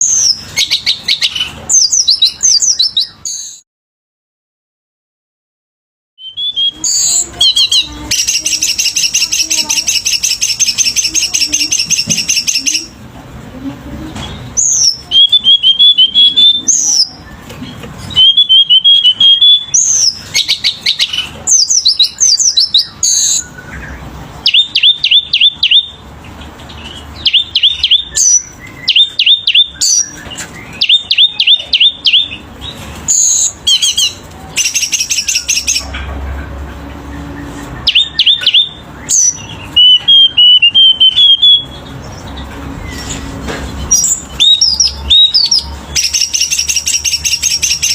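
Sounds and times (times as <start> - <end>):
songbird singing: 0.0 - 3.6, 6.2 - 13.1, 13.7 - 47.9.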